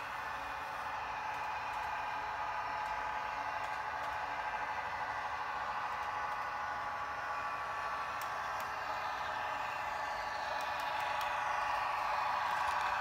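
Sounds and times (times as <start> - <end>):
model train motor whining: 0.0 - 13.0.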